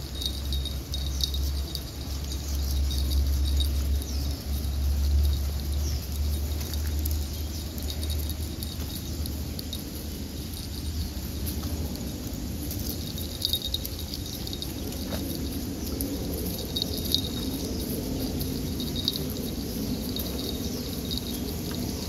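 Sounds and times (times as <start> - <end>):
insects and birds chirping: 0.0 - 22.0.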